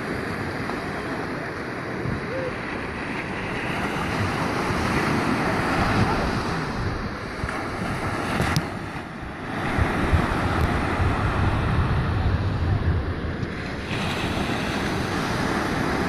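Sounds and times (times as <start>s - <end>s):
small waves breaking on beach: 0.0s - 16.0s
wind buffeting microphone: 0.0s - 16.0s.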